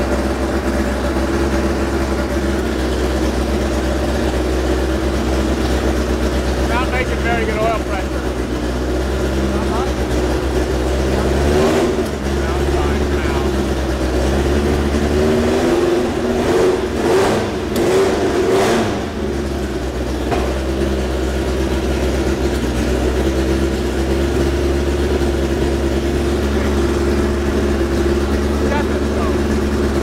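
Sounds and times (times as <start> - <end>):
race engine revving and idling: 0.0 - 30.0.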